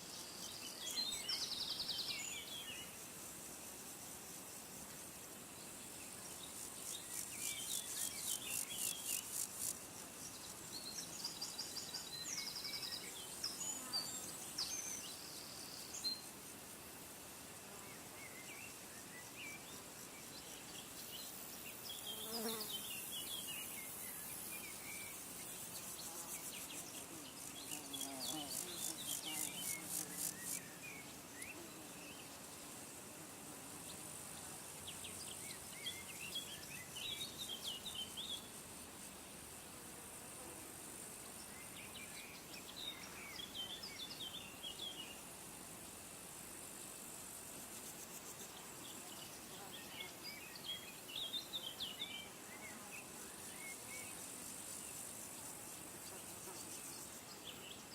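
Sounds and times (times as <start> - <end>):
steady hiss: 0.0 - 57.9
high pulsing insect trill: 0.1 - 57.9.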